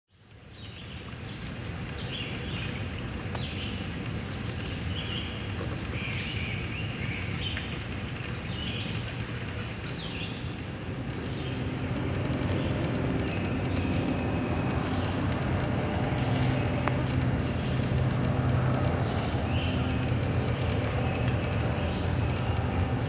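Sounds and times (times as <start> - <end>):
high insect drone: 0.2 - 23.0
stream running over rocks: 0.3 - 23.0.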